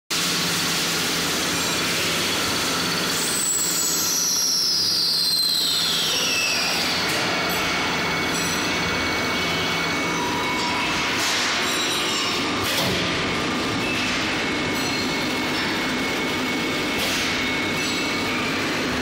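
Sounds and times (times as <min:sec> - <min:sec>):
lathe running: 0:00.2 - 0:19.0.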